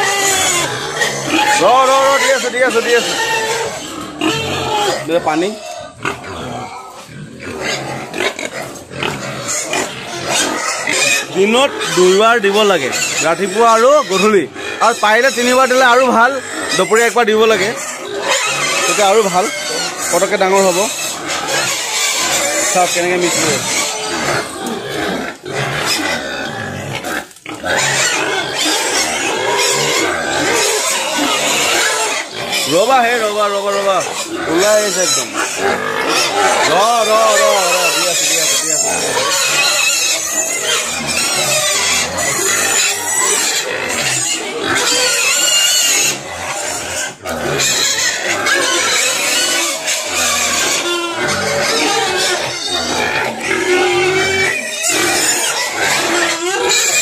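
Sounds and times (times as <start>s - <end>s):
pigs squealing loudly: 0.0s - 57.0s.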